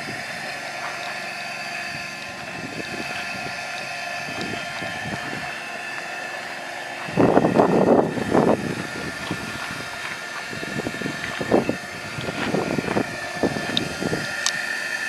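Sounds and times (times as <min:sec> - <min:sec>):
small blower whining: 0:00.0 - 0:15.0.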